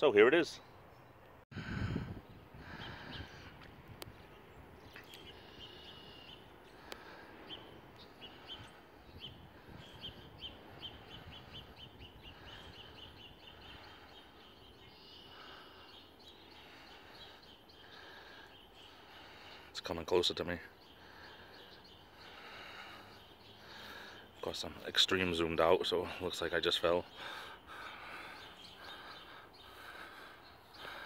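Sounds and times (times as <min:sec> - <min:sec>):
small songbirds chirping: 0:00.0 - 0:31.0.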